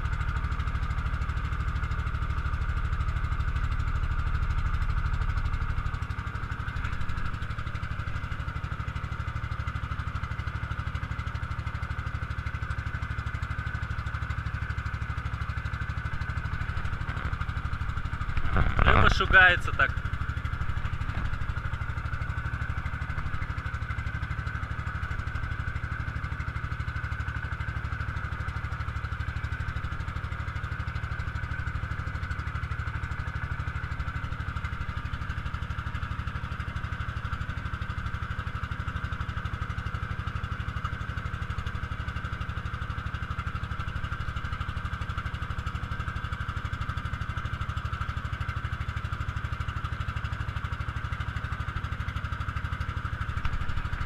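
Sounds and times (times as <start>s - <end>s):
boat motor droning: 0.0s - 54.0s.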